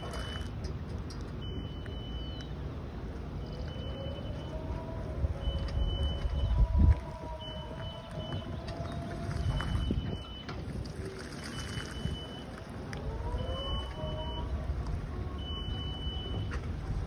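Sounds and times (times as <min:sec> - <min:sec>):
travel alarm beeping: 0:00.0 - 0:00.6, 0:01.2 - 0:17.0
low rumble: 0:01.0 - 0:17.0.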